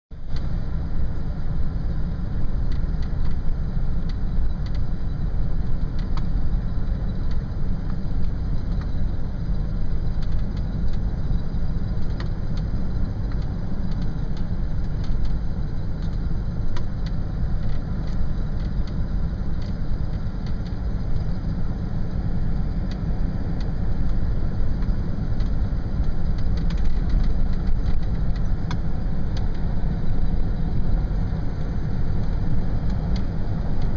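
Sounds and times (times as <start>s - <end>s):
car engine and road noise: 0.1s - 33.9s.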